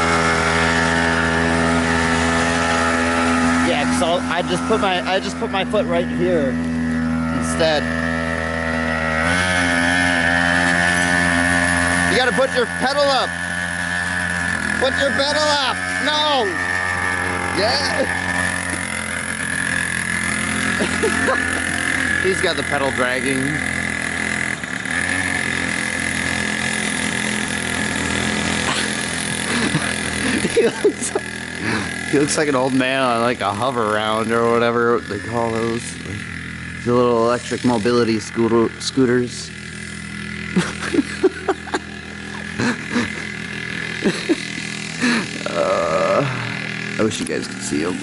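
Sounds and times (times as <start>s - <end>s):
small two-stroke engine buzzing: 0.0s - 48.0s.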